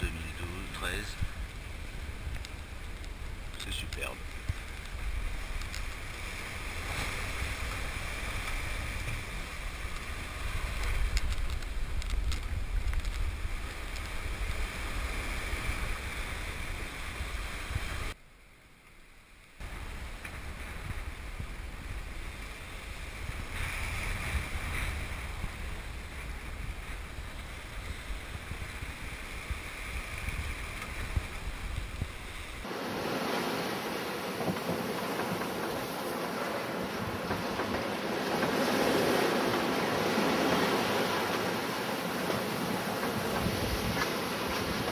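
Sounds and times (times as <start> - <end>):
waves rushing: 0.0 - 18.2, 19.6 - 44.9
wind buffeting microphone: 0.0 - 18.2, 19.6 - 44.9.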